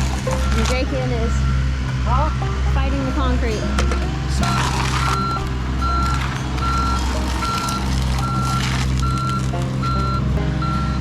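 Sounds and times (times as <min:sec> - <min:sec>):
backup alarm beeping: 0:00.2 - 0:11.0.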